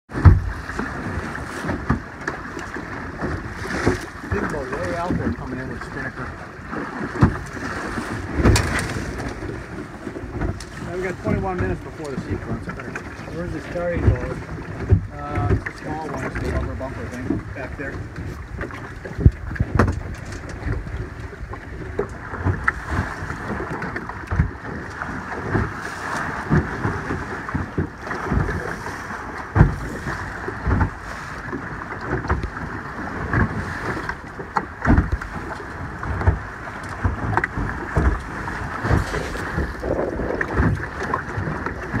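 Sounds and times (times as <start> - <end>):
water rushing along hull: 0.1 - 42.0
wind buffeting microphone: 0.1 - 42.0.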